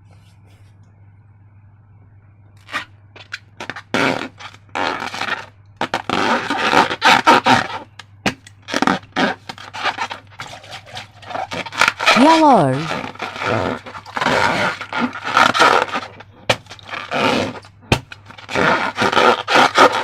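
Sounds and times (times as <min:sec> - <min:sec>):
steady low hum: 0:00.0 - 0:20.0
slime scraping and squishing: 0:02.6 - 0:08.0, 0:08.6 - 0:20.0.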